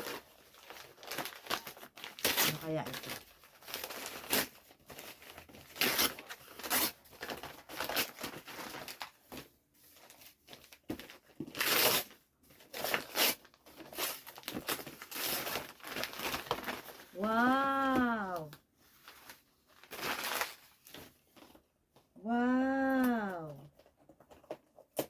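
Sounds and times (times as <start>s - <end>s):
gift wrapping torn and crinkled: 0.0s - 21.7s.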